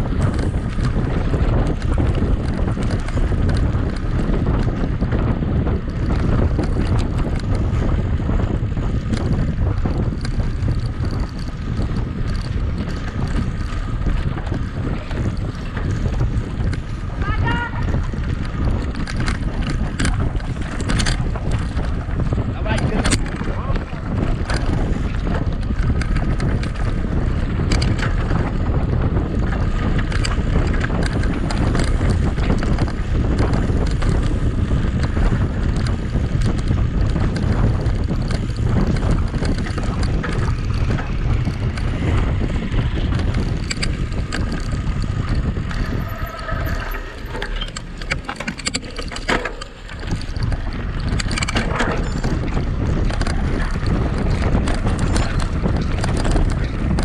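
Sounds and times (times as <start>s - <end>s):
bike clicking and rattling: 0.0s - 57.0s
rumble of bike tyres: 0.0s - 57.0s
wind buffeting microphone: 0.0s - 57.0s.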